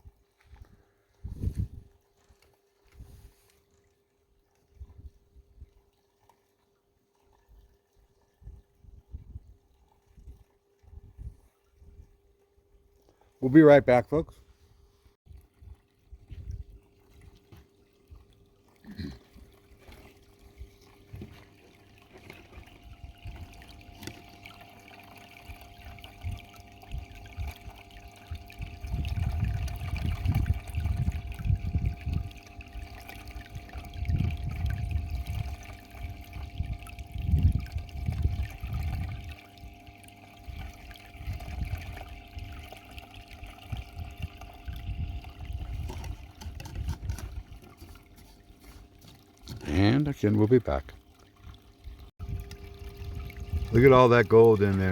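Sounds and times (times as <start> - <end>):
faint steady hum: 0.0 - 54.9
water trickling through sluice box: 0.0 - 54.9.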